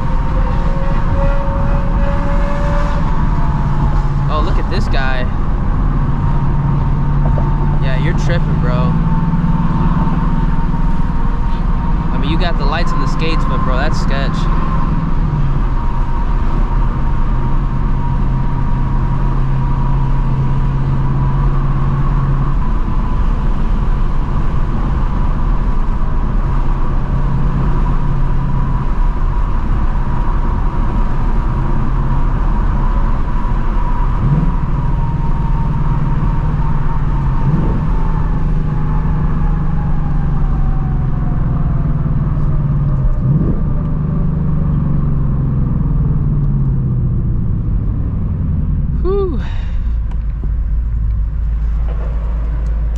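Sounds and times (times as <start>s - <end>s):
car engine cruising drone: 0.0s - 52.9s.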